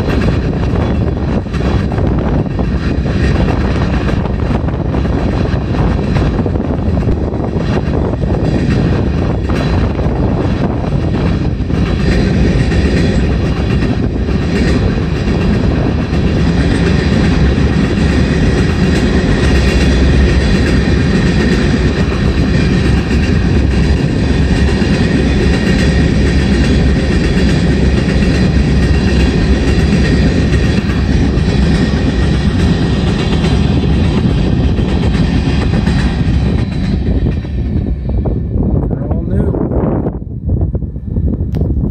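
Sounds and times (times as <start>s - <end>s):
freight train wheels rumbling on rails: 0.0s - 41.9s.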